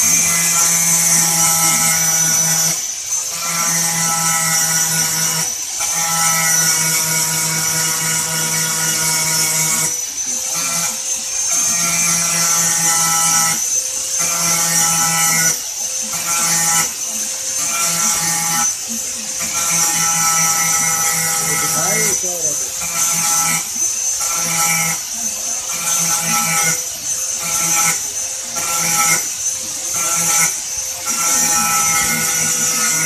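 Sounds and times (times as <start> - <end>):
small gear motors whirring: 0.0 - 33.0
steady high-pitched whine: 0.0 - 33.0.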